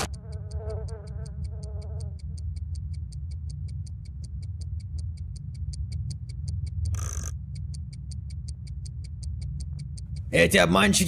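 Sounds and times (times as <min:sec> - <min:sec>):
clock ticking: 0:00.0 - 0:11.0
steady low rumble: 0:00.0 - 0:11.0.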